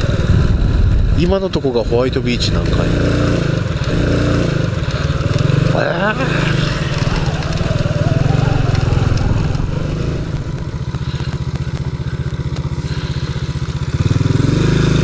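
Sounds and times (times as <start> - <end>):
motorcycle engine running: 0.0 - 15.0
wind: 0.0 - 15.0
road hiss: 2.8 - 15.0.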